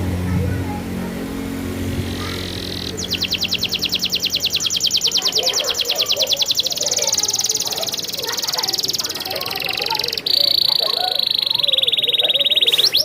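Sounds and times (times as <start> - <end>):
canary singing a trill: 2.0 - 13.0.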